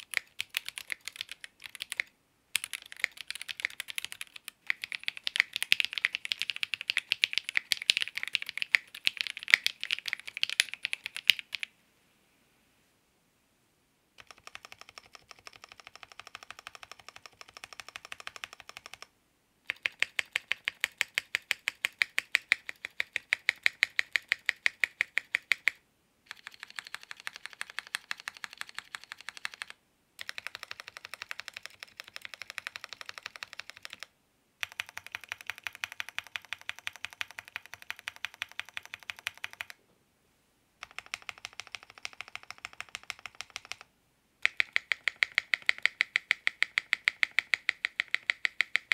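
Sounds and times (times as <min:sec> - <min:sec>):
typing on a mechanical keyboard: 0:00.0 - 0:11.7, 0:14.2 - 0:39.8, 0:40.8 - 0:48.9.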